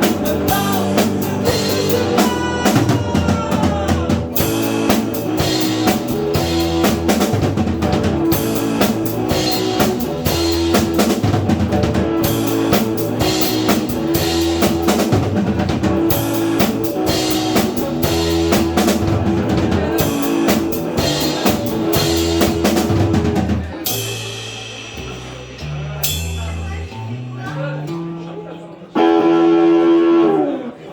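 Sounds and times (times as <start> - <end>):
drum kit: 0.0 - 28.3
live band playing: 0.0 - 30.6.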